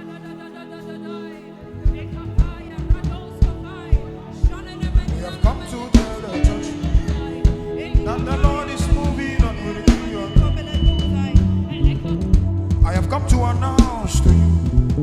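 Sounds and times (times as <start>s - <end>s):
gospel band playing: 0.0s - 15.0s
bass line: 1.7s - 15.0s
steady drum beat: 1.9s - 15.0s.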